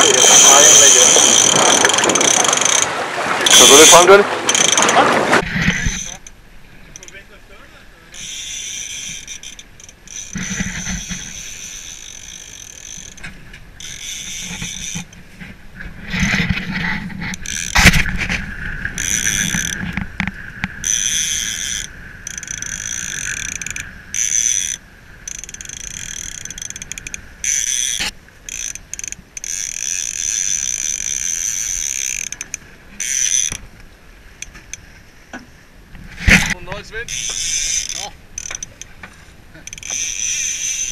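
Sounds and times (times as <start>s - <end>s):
fishing reel gears whirring: 0.0s - 7.3s, 8.1s - 15.2s, 16.1s - 18.2s, 18.9s - 33.7s, 36.4s - 39.0s, 39.6s - 40.9s.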